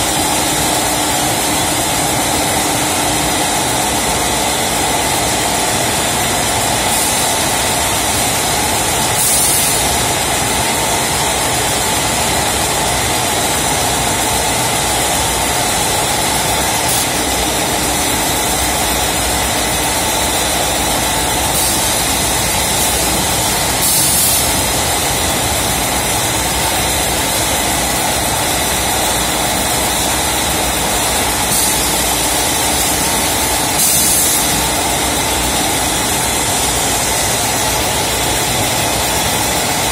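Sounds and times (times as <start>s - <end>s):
bagging machine humming: 0.0s - 39.9s.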